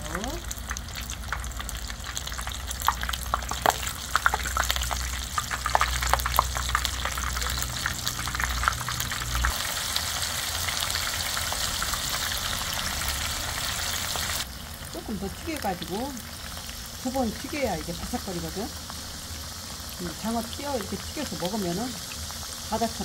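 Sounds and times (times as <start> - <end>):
food deep-frying in hot oil: 0.0 - 23.0.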